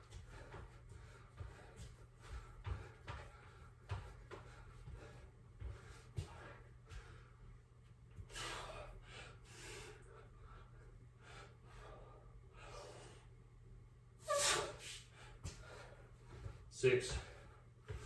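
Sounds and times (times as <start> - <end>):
man breathing hard: 0.0 - 13.4, 14.3 - 18.0.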